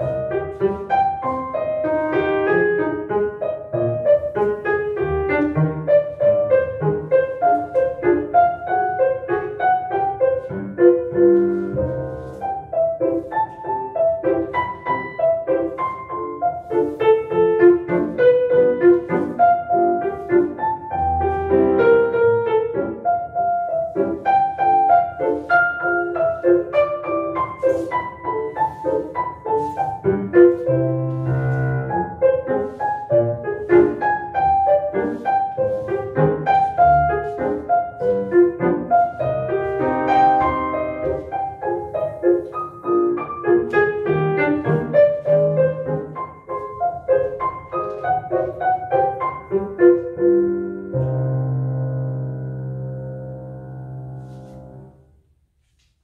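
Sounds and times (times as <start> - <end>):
classical piano music: 0.0 - 56.0.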